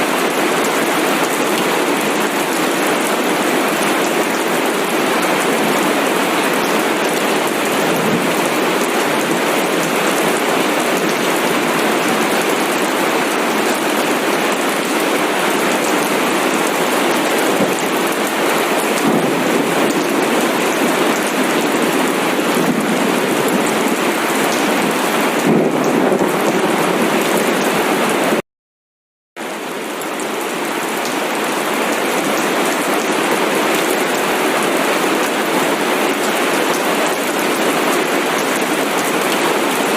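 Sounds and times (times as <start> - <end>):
dense rain falling: 0.0 - 28.4, 29.4 - 39.9.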